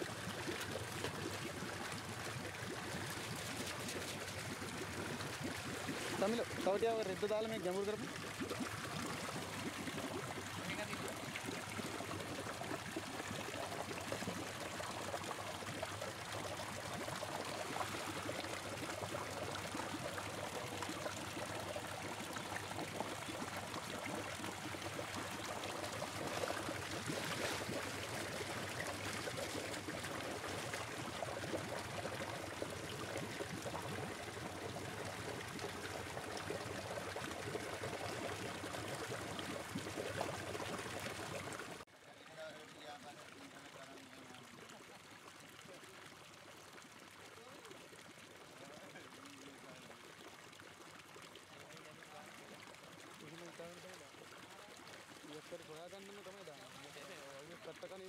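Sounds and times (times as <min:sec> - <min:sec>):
water pouring into tank: 0:00.0 - 0:58.0.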